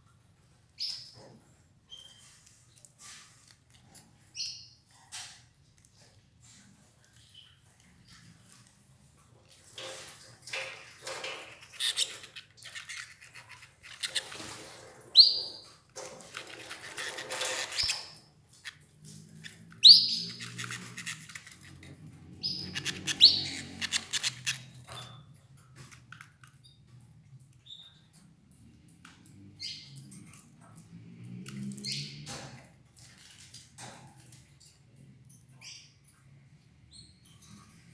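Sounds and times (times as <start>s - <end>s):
canaries chirping: 0.4s - 3.1s, 3.8s - 5.5s, 6.4s - 34.3s
birds pecking and tearing leaves: 2.0s - 26.6s, 28.8s - 34.6s.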